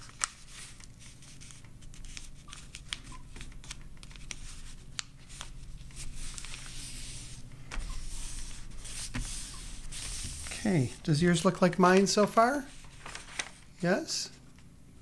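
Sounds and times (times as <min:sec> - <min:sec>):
paper rustling and crackling: 0:00.0 - 0:13.8.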